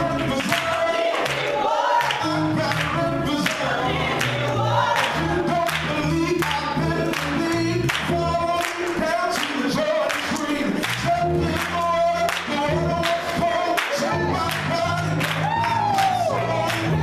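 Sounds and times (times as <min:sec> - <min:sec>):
man singing into microphone: 0:00.0 - 0:01.3, 0:02.0 - 0:04.3, 0:04.9 - 0:17.0
gospel choir singing: 0:00.0 - 0:17.0
hand clapping on the beat: 0:00.0 - 0:17.0.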